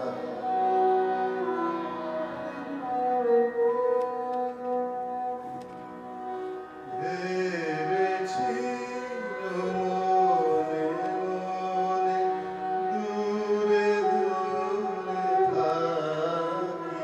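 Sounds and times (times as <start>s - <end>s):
bowed string sliding melody: 0.0s - 17.0s
harmonium reed chords: 0.0s - 17.0s.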